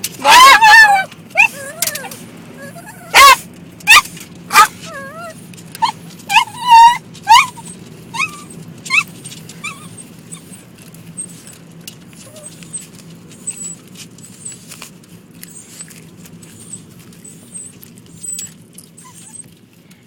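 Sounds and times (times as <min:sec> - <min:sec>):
car hum: 0:00.0 - 0:20.0
dog yelping whines: 0:00.2 - 0:19.6.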